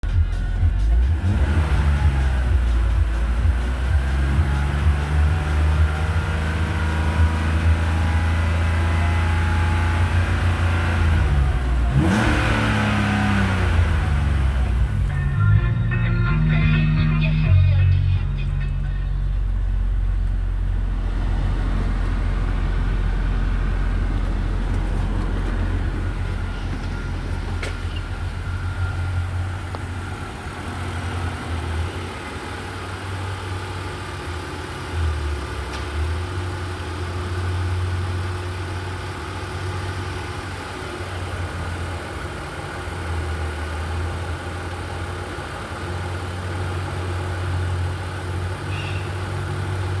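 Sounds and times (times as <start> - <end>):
engine idling: 0.0 - 50.0.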